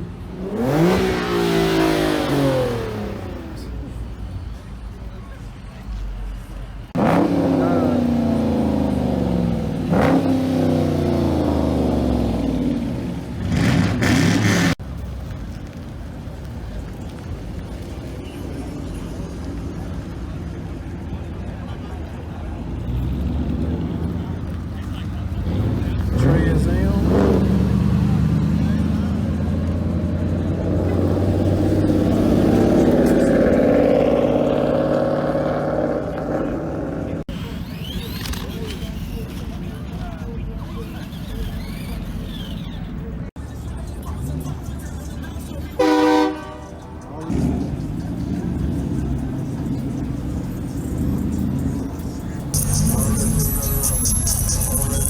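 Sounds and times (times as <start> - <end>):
vehicle engine revving: 0.0 - 4.3, 6.8 - 15.1, 22.4 - 55.0
steady background noise: 0.0 - 55.0.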